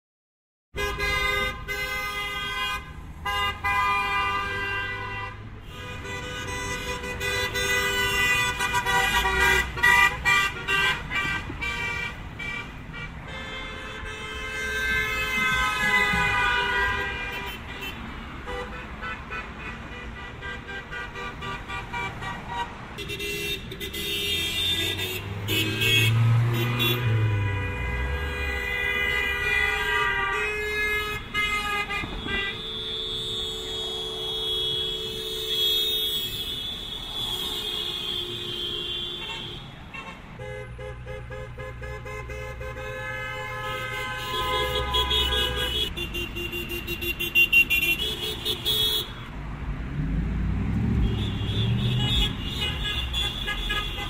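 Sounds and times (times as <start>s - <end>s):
car horns honking: 0.7s - 49.4s, 50.4s - 54.0s.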